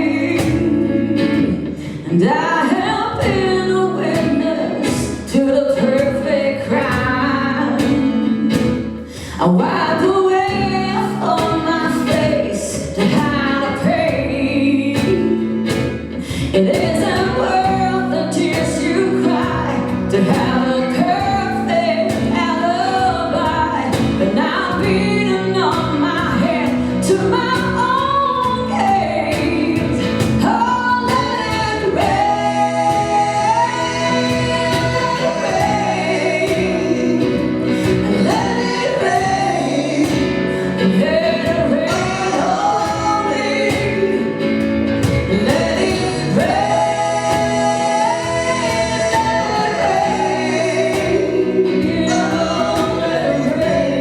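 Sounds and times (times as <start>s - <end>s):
band accompaniment: 0.0s - 54.0s
person singing: 0.0s - 54.0s.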